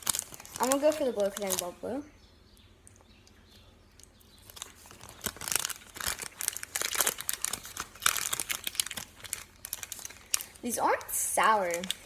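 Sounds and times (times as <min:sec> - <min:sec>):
plastic packet crinkling: 0:00.0 - 0:02.0, 0:04.0 - 0:12.0.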